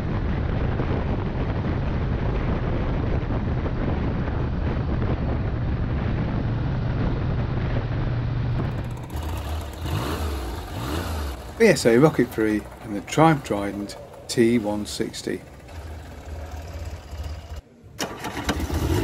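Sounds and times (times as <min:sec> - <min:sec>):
wind rushing over microphone: 0:00.0 - 0:15.7
motorcycle engine cruising: 0:00.0 - 0:19.0.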